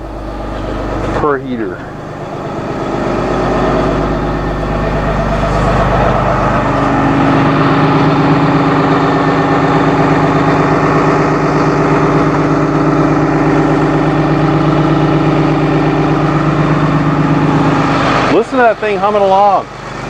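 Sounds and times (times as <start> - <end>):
bus diesel engine idling: 0.0 - 20.0.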